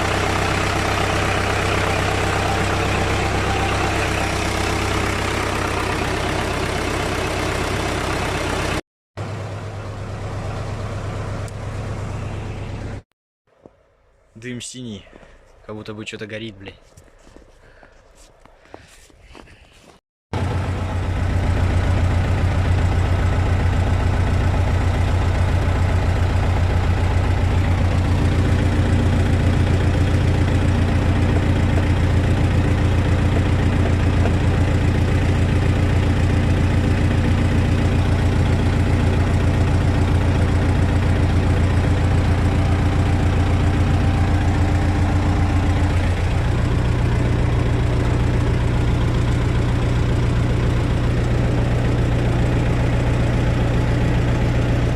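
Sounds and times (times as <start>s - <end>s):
tractor diesel engine idling: 0.0s - 13.0s, 20.4s - 54.9s.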